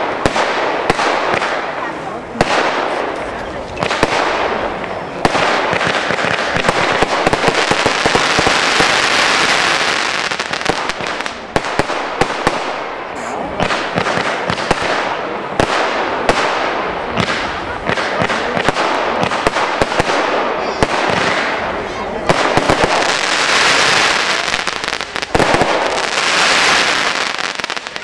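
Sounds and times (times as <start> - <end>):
crackling firework hiss: 0.0 - 28.0
firework shots: 0.0 - 28.0.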